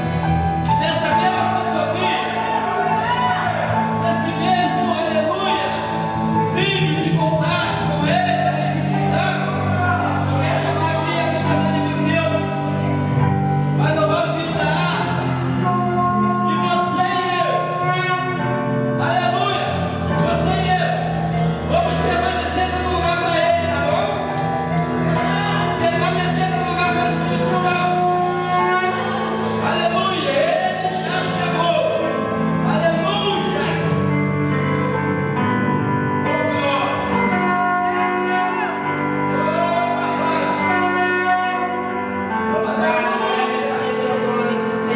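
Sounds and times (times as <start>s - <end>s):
electronic keyboard worship melody: 0.0s - 44.9s.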